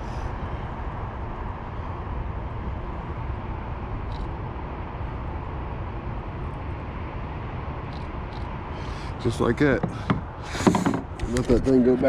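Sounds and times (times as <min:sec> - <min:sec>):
low outdoor rumbling: 0:00.0 - 0:12.0.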